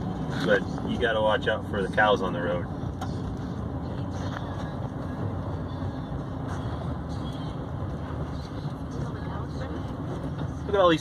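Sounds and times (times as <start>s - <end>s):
vehicle engine: 0.0s - 11.0s.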